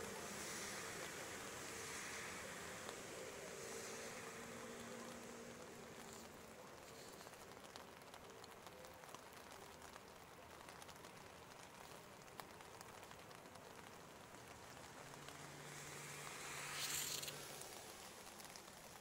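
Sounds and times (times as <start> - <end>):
light rain patter: 0.0 - 19.0.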